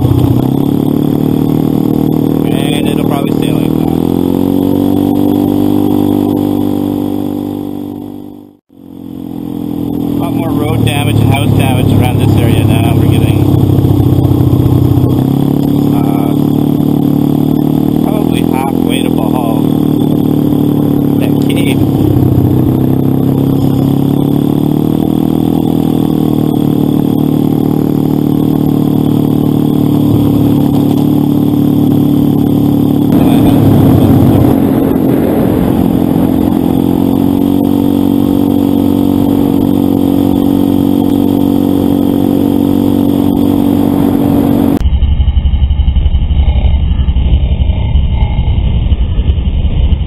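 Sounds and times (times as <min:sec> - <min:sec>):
motorcycle engine running: 0:00.0 - 0:50.0
muffled low sound: 0:00.0 - 0:50.0
rushing noise: 0:00.0 - 0:50.0.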